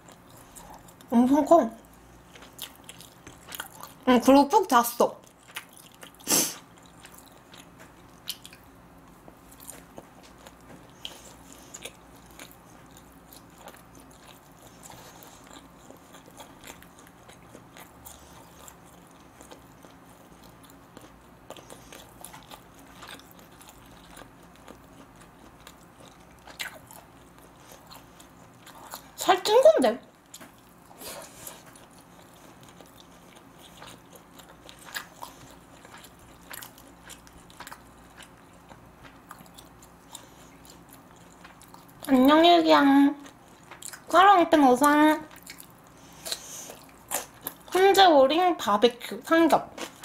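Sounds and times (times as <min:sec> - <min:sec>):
close chewing: 0:00.0 - 0:48.0.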